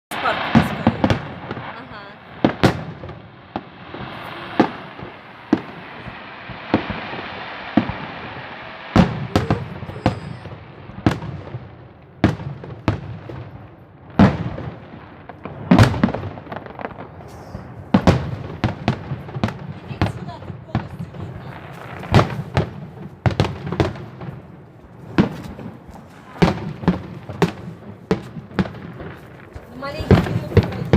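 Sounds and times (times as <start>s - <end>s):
fireworks crackling hiss: 0.1s - 13.5s, 14.2s - 30.9s
fireworks bangs: 0.1s - 30.9s.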